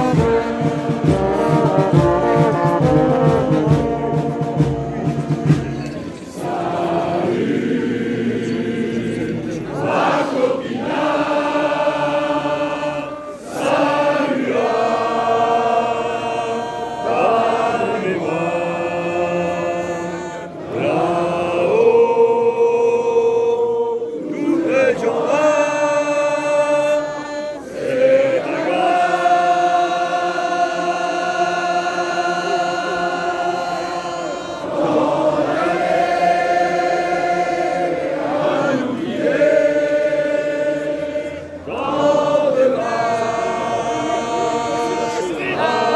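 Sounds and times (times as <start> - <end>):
crowd singing in unison: 0.0 - 45.9.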